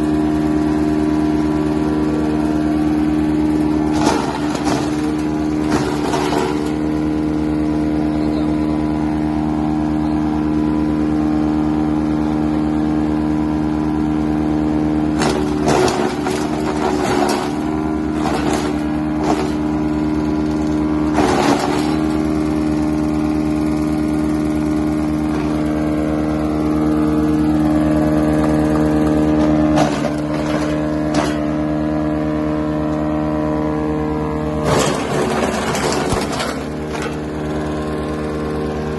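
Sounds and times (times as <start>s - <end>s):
tractor engine: 0.0s - 38.9s
wood chipper running: 0.0s - 38.9s.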